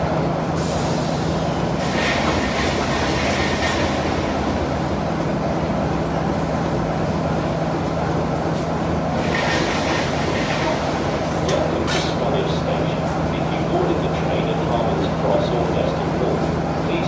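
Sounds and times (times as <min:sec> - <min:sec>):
diesel locomotive engine idling: 0:00.0 - 0:17.0.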